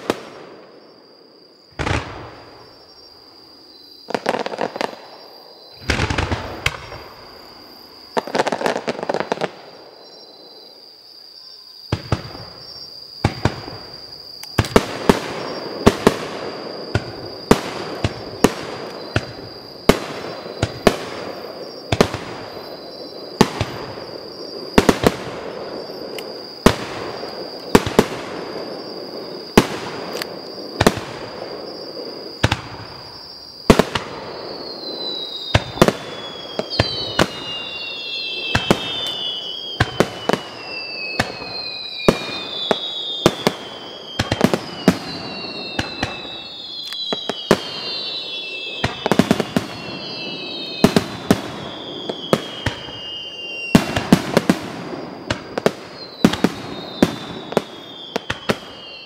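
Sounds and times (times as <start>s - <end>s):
firework bangs: 0.0s - 3.0s, 4.0s - 9.8s, 11.9s - 59.0s
firework rumble and crackle: 0.0s - 10.9s, 11.8s - 59.0s
firework whistles gliding down: 0.0s - 59.0s.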